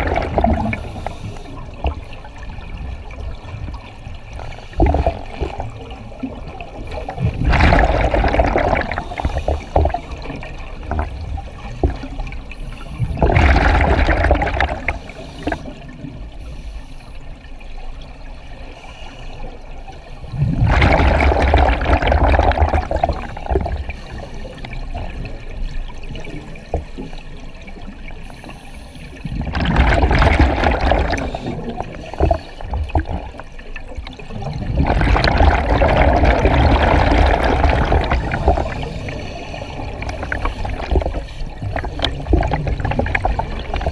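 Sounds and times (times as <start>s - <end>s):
underwater bubbles exhaling: 0.0s - 16.2s, 20.2s - 28.2s, 29.1s - 43.9s.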